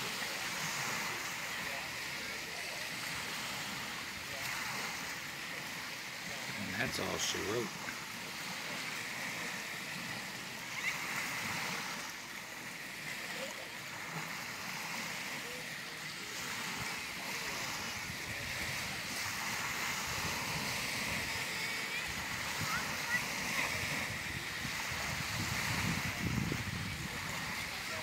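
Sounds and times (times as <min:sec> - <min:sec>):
small waves washing on shore: 0:00.0 - 0:28.0.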